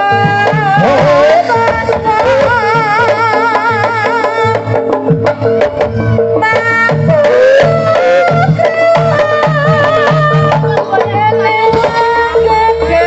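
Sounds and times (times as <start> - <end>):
hand drums beating: 0.0 - 13.0.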